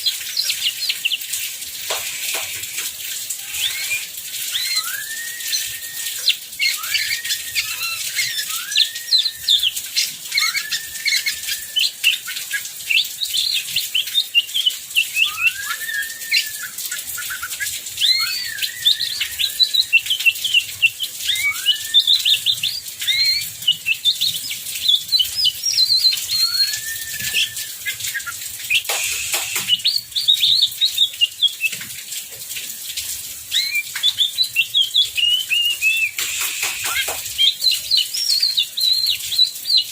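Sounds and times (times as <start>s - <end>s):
heavy rain: 0.0s - 39.9s
songbird singing: 3.4s - 31.8s, 33.5s - 39.9s.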